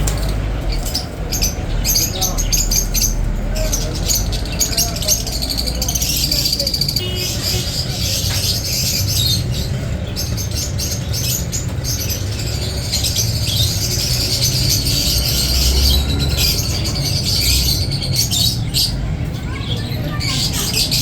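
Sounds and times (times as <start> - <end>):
caged birds chirping and squawking: 0.0 - 21.0.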